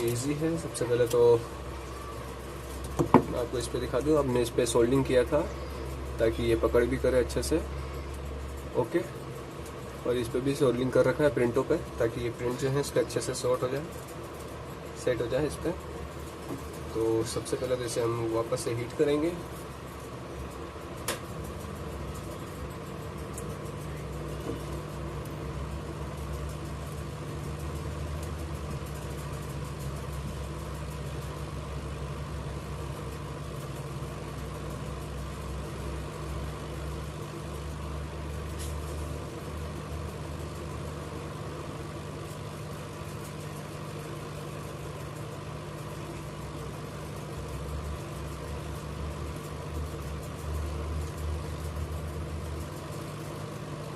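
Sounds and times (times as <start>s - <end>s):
hot air station fan hum: 0.0s - 53.9s.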